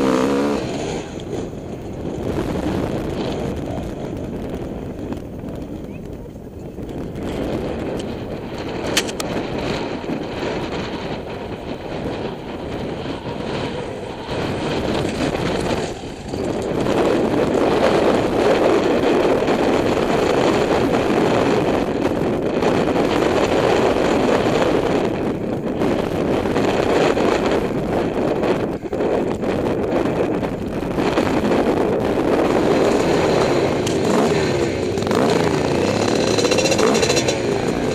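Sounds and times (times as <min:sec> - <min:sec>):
dirt bike engine: 0:00.0 - 0:37.9
wind buffeting microphone: 0:00.0 - 0:37.9.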